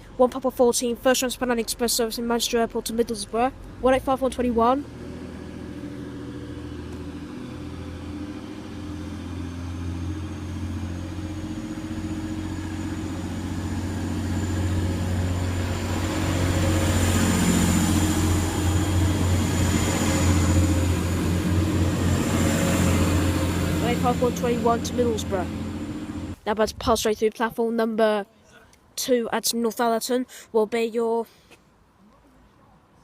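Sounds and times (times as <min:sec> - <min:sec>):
diesel train engines: 0:00.0 - 0:26.8.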